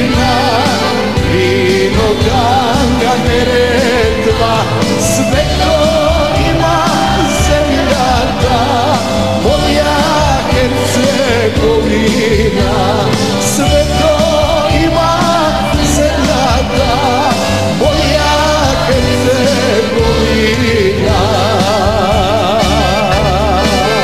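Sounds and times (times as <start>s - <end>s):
bass guitar: 0.0s - 24.0s
drums: 0.0s - 24.0s
electric guitars: 0.0s - 24.0s
person singing: 0.0s - 24.0s.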